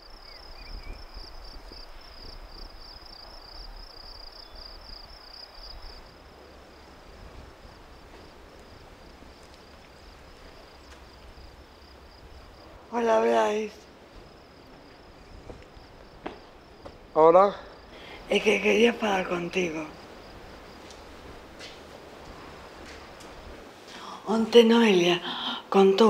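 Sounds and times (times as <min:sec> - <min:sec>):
faint outdoor background noise: 0:00.0 - 0:26.0
insect chirping: 0:00.0 - 0:26.0.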